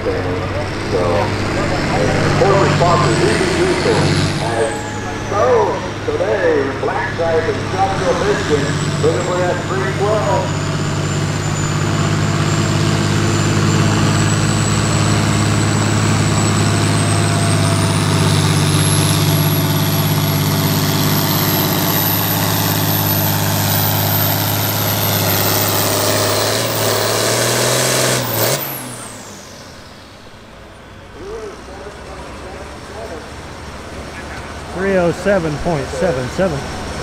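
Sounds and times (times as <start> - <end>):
diesel tractor engine at full throttle: 0.0 - 37.0
high engine whine: 0.0 - 37.0.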